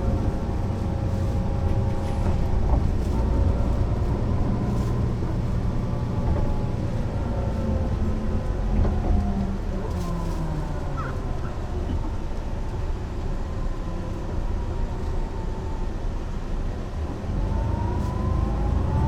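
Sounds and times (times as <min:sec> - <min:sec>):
bus diesel engine rumbling: 0:00.0 - 0:19.0.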